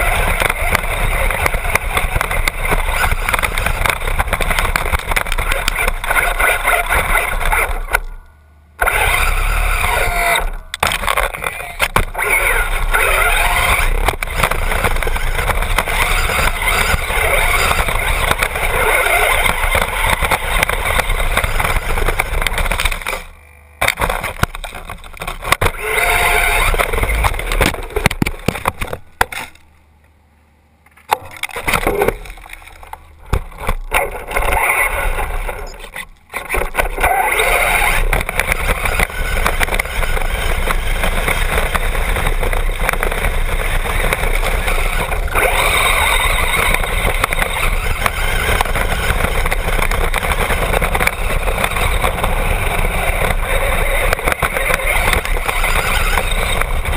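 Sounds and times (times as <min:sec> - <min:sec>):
rc car motor and tyres on dirt: 0:00.0 - 0:29.9, 0:30.8 - 0:56.9.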